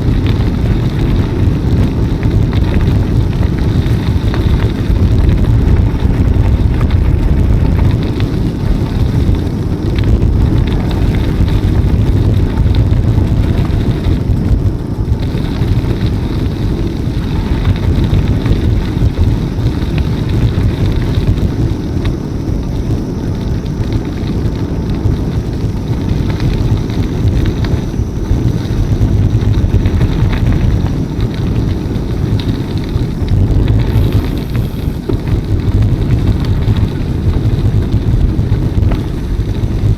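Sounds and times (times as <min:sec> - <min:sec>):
bicycle tyre noise: 0:00.0 - 0:39.9
wind buffeting microphone: 0:00.0 - 0:39.9.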